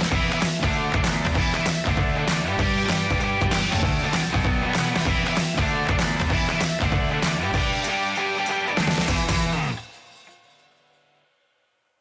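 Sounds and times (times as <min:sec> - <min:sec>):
rock music with guitar and beat: 0:00.0 - 0:10.7.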